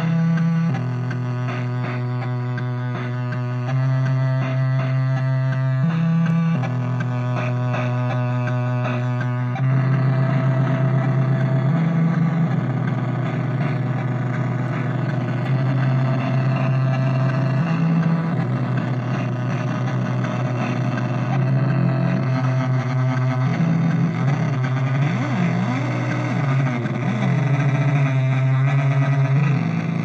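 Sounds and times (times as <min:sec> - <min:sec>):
buzzy synthesizer drone: 0:00.0 - 0:30.0.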